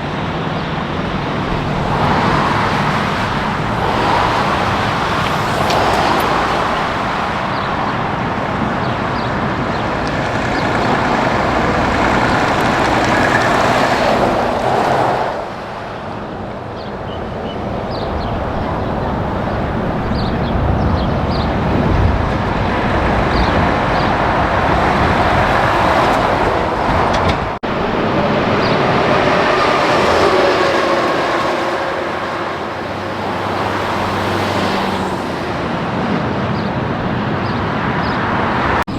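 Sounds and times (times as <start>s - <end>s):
heavy trucks passing: 0.0s - 38.9s.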